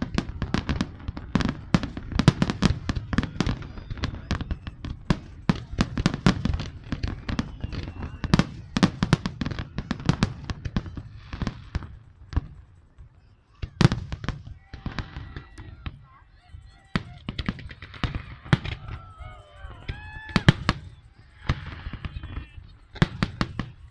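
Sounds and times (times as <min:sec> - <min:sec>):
heavy fireworks booms: 0:00.0 - 0:16.1, 0:16.9 - 0:23.9
fireworks bangs and cracks: 0:00.0 - 0:23.9.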